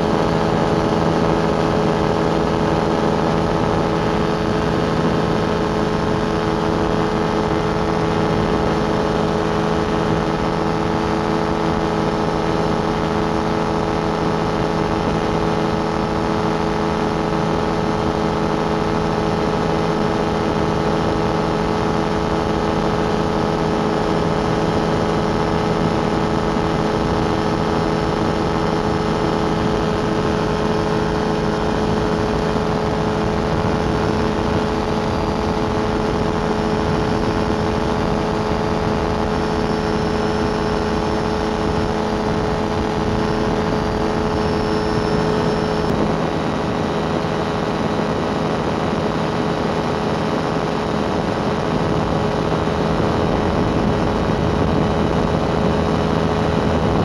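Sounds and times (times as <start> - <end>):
ultralight engine droning: 0.0 - 57.0.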